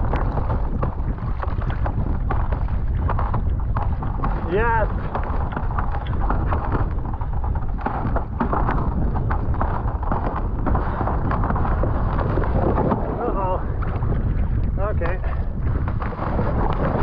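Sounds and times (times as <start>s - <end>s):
knocks and scrapes on ice: 0.0s - 17.0s
wind noise on microphone: 0.0s - 17.0s.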